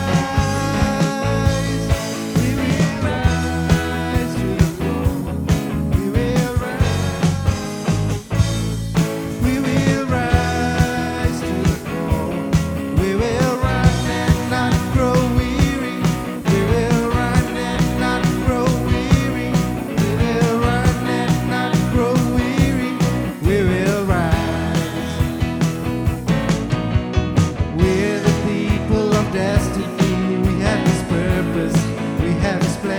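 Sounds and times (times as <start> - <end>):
person singing: 0.0 - 7.9, 9.3 - 25.6, 27.7 - 32.9
guitar: 0.0 - 32.9
steady drum beat: 0.0 - 32.9.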